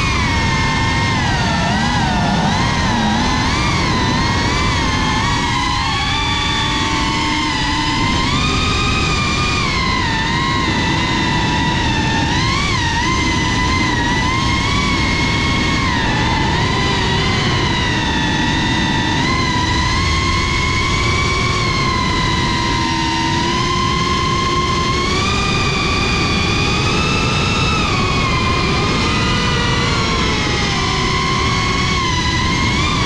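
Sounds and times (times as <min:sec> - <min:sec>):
drone motors and propellers whining: 0:00.0 - 0:33.0.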